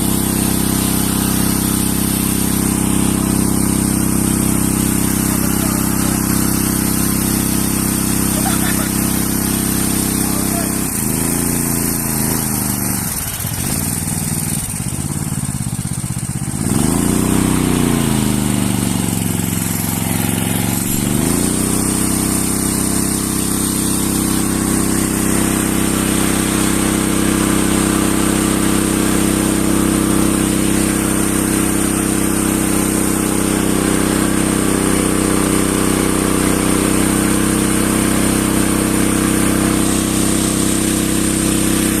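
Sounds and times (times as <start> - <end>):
water pump engine running: 0.0 - 42.0.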